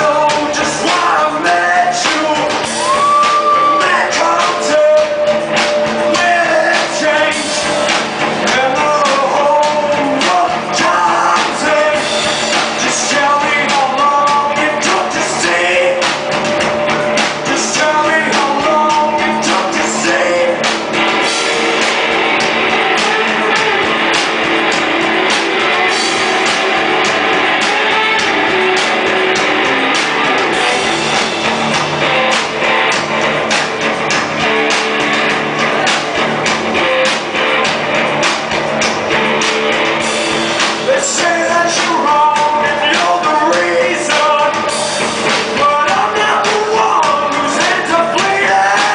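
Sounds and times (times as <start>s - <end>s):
lead singer singing: 0.0s - 36.2s, 36.8s - 48.9s
rock band playing live: 0.0s - 48.9s.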